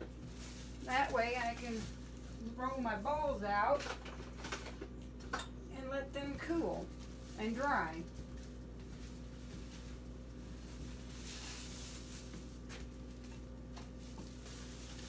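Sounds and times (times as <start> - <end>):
plastic sheet rustling: 0.0 - 4.8, 6.4 - 15.0
low electrical hum: 0.0 - 15.0.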